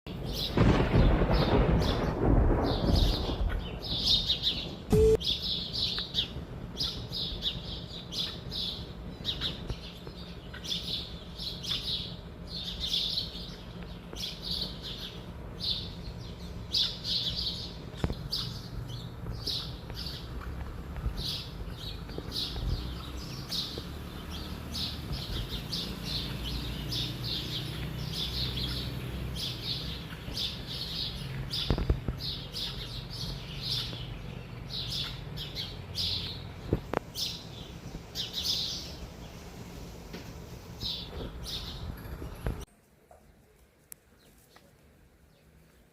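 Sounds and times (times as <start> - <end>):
birds chirping: 0.1 - 43.4.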